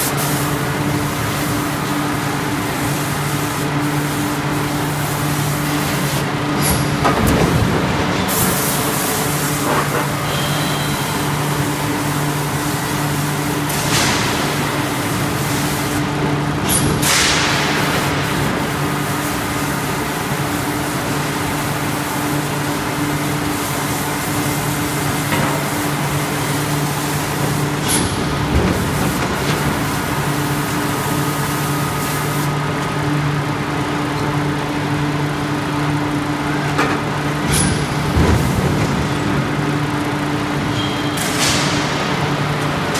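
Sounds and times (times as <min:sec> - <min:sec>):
loud machine hum: 0:00.0 - 0:42.9.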